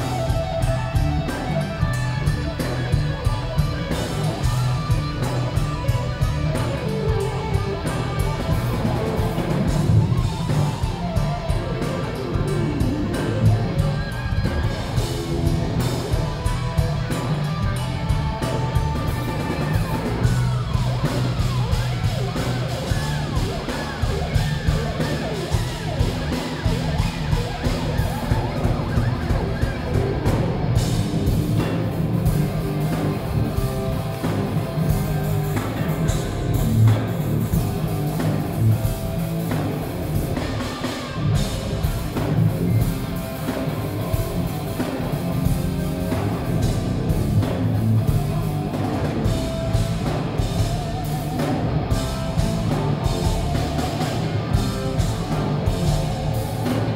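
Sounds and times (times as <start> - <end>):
lead electric guitar: 0.0 - 56.9
rock band playing: 0.0 - 56.9.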